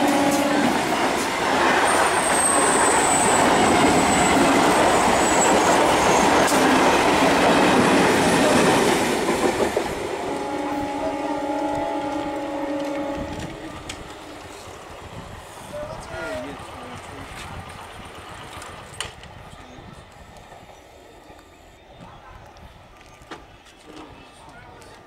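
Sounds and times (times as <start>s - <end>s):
train wheels rumbling and clattering: 0.0s - 21.5s.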